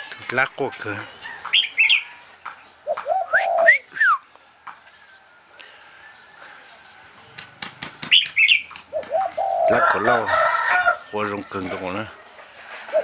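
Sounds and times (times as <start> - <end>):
caged birds calling: 0.0 - 13.0.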